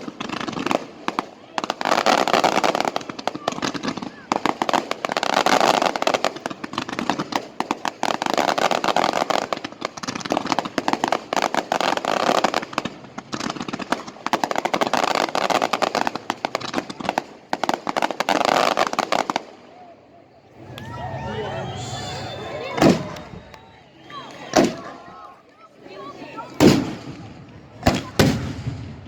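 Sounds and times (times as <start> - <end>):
fireworks crackling: 0.0 - 29.0.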